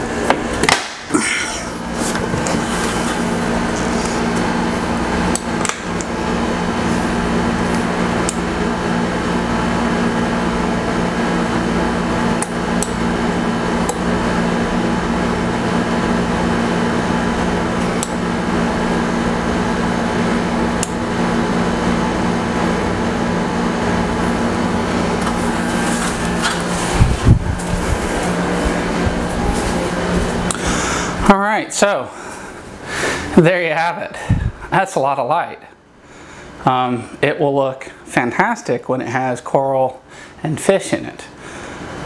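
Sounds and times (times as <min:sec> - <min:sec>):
steady electrical hum: 0:00.0 - 0:42.0.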